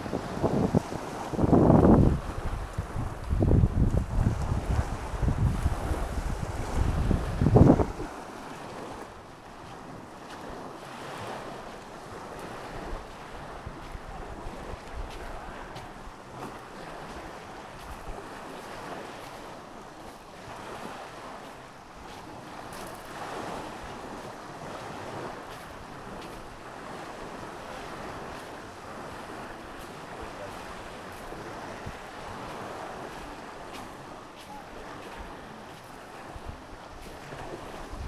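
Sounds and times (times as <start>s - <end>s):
wind rumbling on microphone: 0.0s - 21.4s, 22.0s - 38.0s
small waves washing onto shore: 0.0s - 38.0s.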